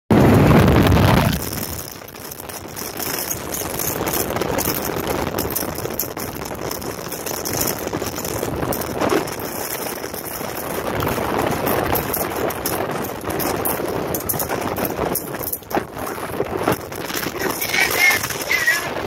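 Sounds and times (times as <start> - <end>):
strong wind buffeting microphone: 0.1 - 19.0.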